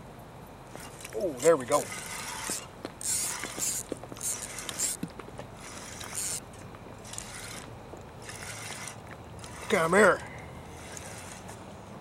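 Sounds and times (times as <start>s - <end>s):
fishing reel whirring: 0.8s - 5.0s, 5.6s - 11.6s.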